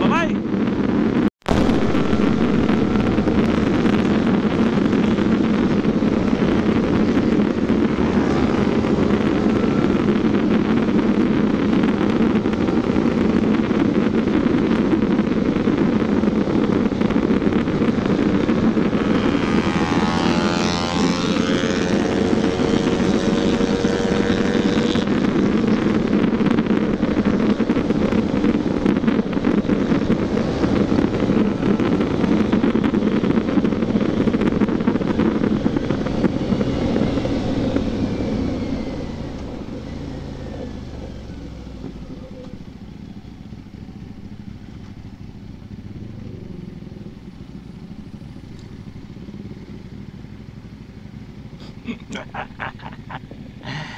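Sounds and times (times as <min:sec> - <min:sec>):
wind rush on microphone: 0:00.0 - 0:53.9
motorcycle engine: 0:00.5 - 0:53.9.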